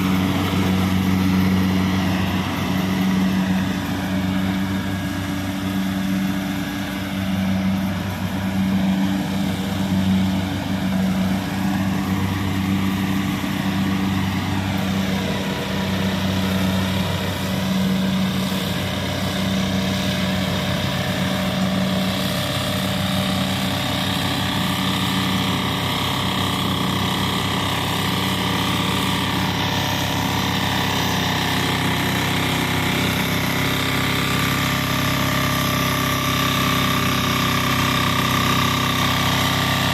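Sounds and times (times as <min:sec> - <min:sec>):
harvester diesel engine drone: 0:00.0 - 0:39.9.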